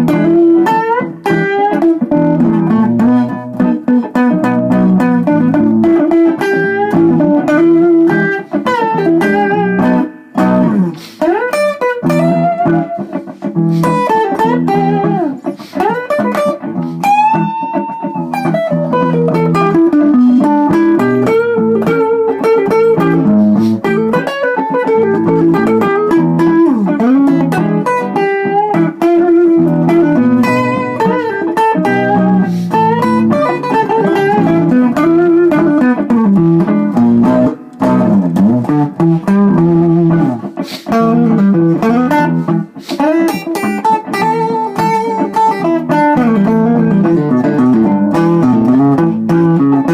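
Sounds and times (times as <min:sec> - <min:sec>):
blues guitar with bent notes: 0:00.0 - 0:49.9.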